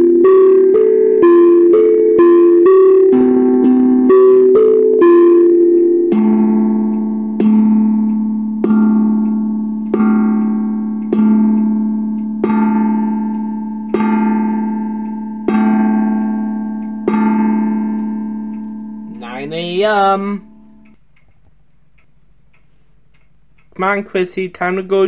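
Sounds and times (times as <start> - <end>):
clock bell strokes: 0.0 - 21.0
clock chime tune: 0.0 - 21.0.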